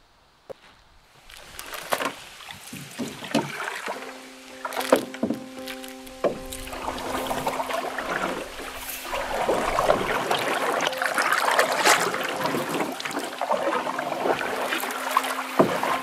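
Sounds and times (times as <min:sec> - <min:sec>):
paddles splashing: 0:01.2 - 0:16.0
water washing along hull: 0:01.2 - 0:16.0.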